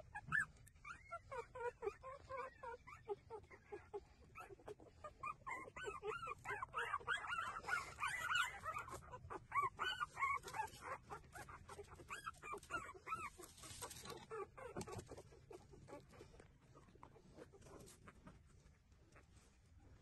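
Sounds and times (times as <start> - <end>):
puppies squeaking and whimpering: 0.0 - 18.4.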